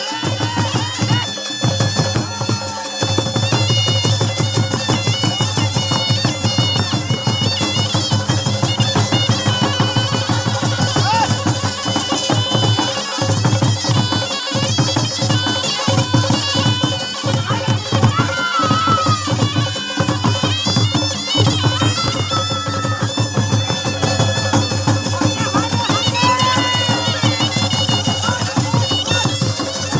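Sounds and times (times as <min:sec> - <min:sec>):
fast steady drumming: 0:00.0 - 0:29.9
reedy wind instrument melody: 0:00.0 - 0:29.9.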